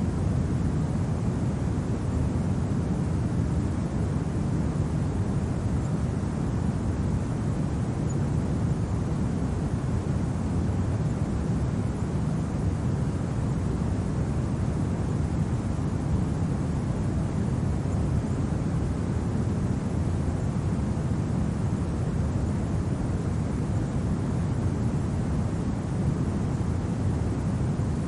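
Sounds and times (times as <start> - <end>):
low rumbling wind: 0.0 - 28.0.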